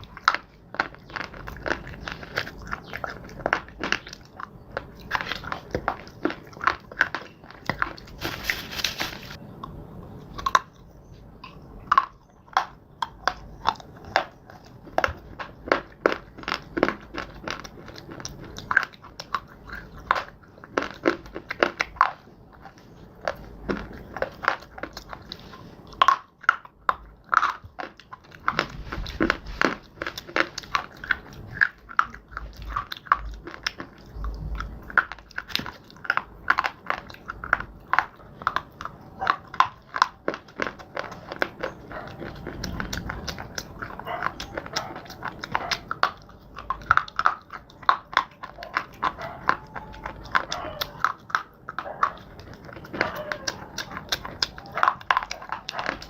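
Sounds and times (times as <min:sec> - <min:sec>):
chewing crunchy clay: 0:00.0 - 0:56.0.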